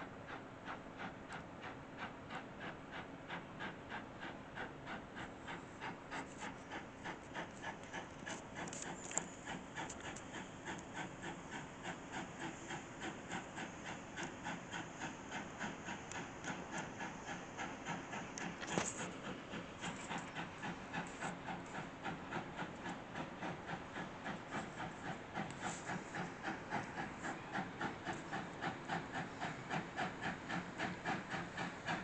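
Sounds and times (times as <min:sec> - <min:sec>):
steam locomotive chuffing: 0:00.0 - 0:32.0
steam hiss: 0:00.3 - 0:32.0.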